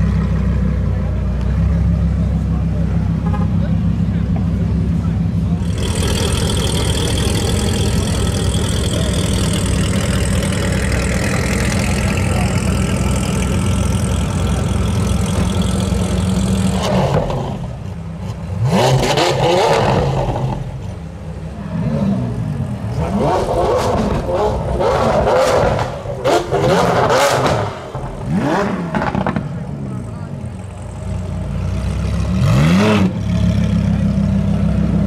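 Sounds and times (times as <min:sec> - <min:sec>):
car engine revving: 0:05.0 - 0:35.0.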